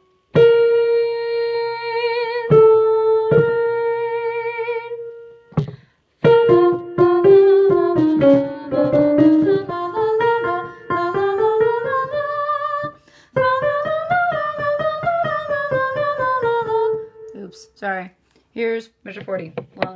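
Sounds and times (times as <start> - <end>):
piano: 0.0 - 17.6
soprano singing with vibrato: 0.4 - 5.7, 6.3 - 17.7.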